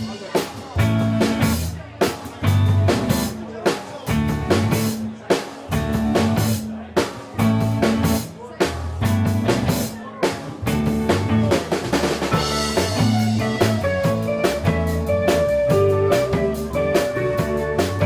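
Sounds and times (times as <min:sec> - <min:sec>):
drum kit beating: 0:00.0 - 0:18.0
live rock band playing: 0:00.0 - 0:18.0.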